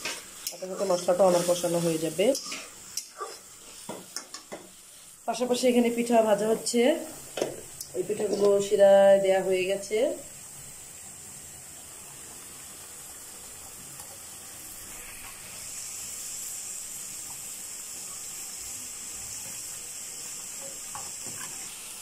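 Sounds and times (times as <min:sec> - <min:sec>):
pastries deep-frying in oil: 0:00.0 - 0:22.0.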